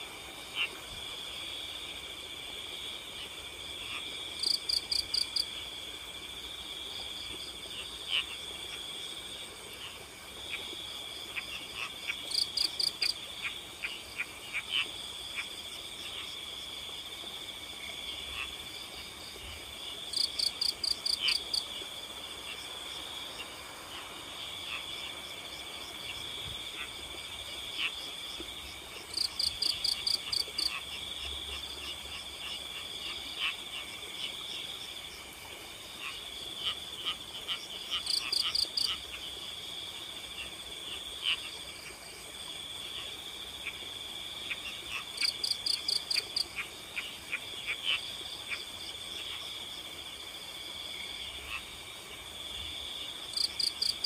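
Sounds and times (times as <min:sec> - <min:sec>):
frogs chirping: 0:00.4 - 0:54.0
crickets trilling: 0:00.6 - 0:10.0, 0:10.6 - 0:35.3, 0:35.9 - 0:54.0.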